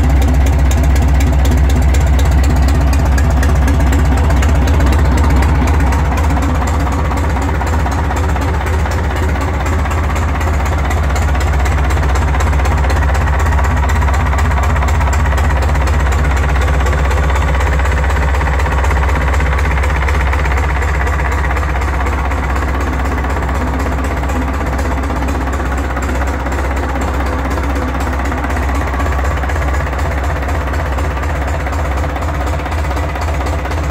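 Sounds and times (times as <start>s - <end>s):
diesel engine clattering: 0.0s - 33.9s.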